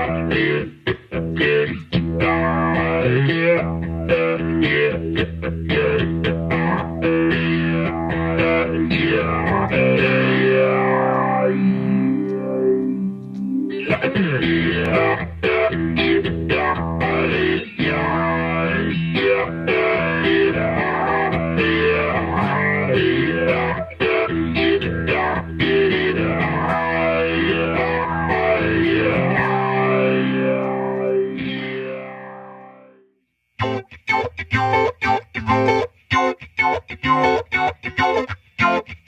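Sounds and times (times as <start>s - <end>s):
electric guitar with sweeping filter: 0.0s - 39.0s.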